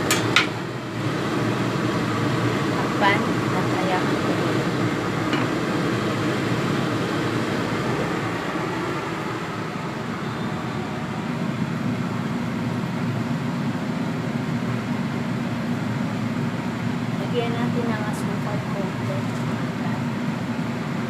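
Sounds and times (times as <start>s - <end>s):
food simmering in covered pan: 0.0s - 17.2s.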